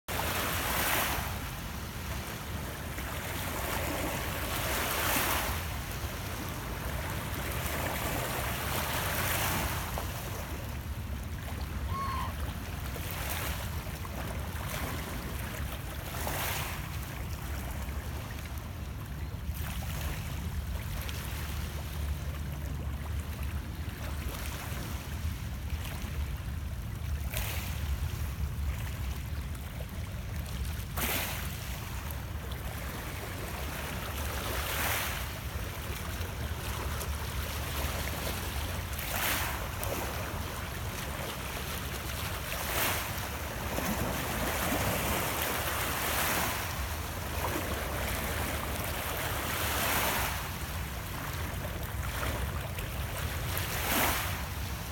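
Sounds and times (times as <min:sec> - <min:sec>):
low rumble of wind: 0:00.1 - 0:54.9
waves lapping over rocks: 0:00.1 - 0:54.9.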